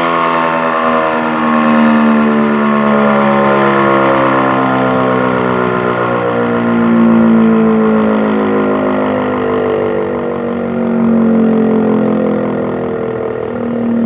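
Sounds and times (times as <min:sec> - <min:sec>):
warning siren wailing: 0:00.0 - 0:14.0.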